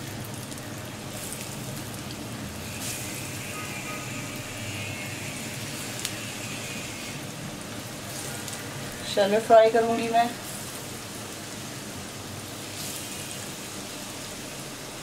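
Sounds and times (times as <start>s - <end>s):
hot oil sizzling in a frying pan: 0.0s - 15.0s.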